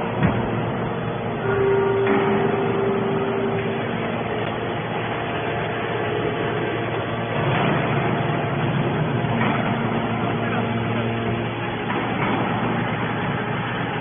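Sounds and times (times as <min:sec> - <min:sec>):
scrap metal baler running: 0:00.0 - 0:14.0.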